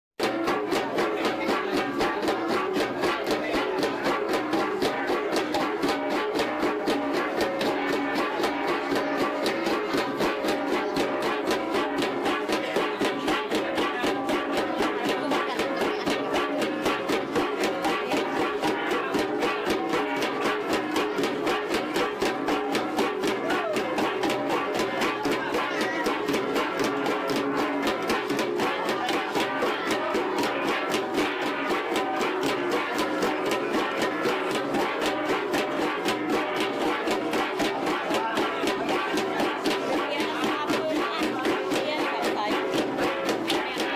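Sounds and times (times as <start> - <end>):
flat bronze gongs played fast: 0.2 - 43.9.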